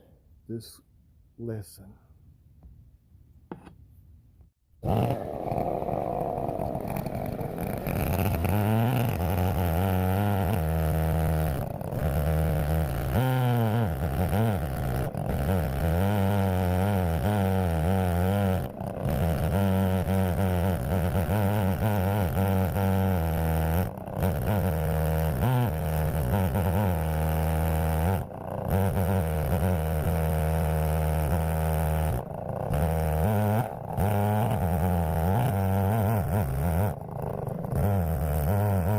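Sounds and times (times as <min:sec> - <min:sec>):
chainsaw cutting log under load: 0:04.8 - 0:38.9.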